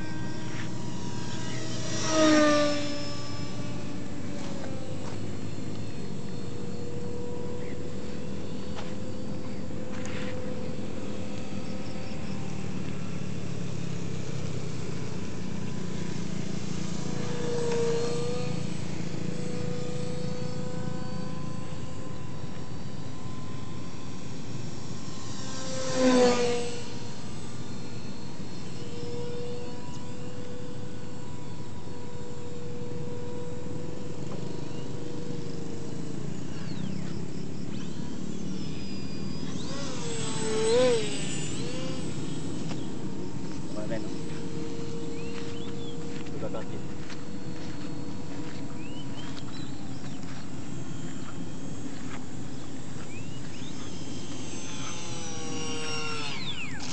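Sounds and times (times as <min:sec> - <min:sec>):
model plane motor whine: 0:00.0 - 0:56.9.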